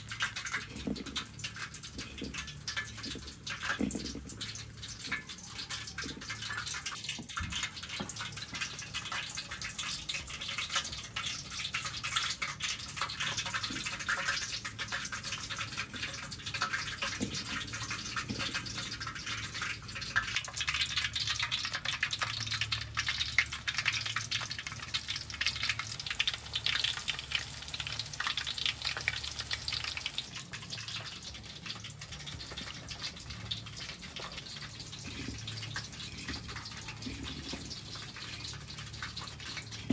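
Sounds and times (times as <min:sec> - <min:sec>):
rice flakes rustling and crackling: 0:00.0 - 0:39.9.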